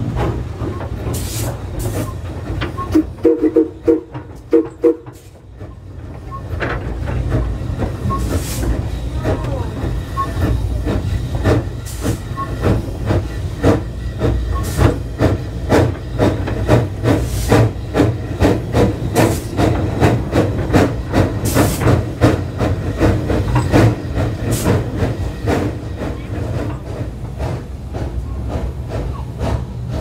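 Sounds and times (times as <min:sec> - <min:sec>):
steam locomotive chuffing: 0:00.0 - 0:30.0.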